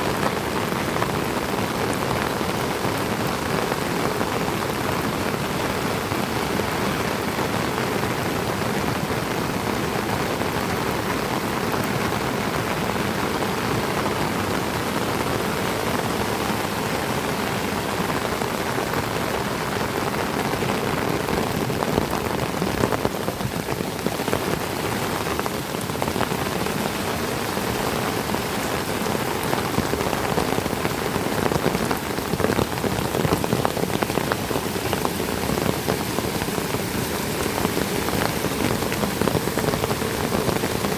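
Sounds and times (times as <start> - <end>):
heavy rain on foliage: 0.0 - 40.9.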